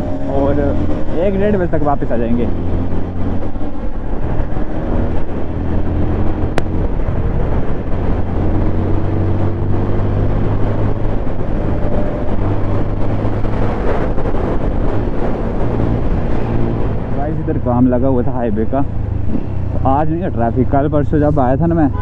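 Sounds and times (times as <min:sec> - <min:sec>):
motorcycle engine cruising: 0:00.0 - 0:21.3.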